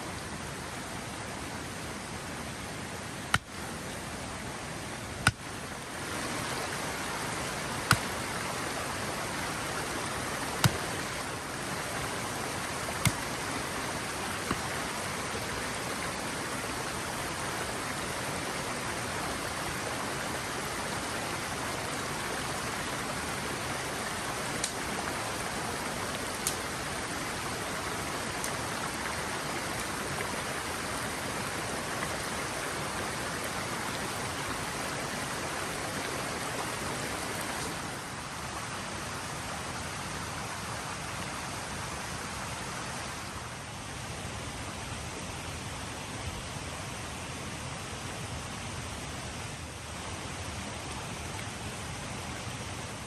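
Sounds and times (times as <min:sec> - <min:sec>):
creek water running: 0:00.0 - 0:53.0.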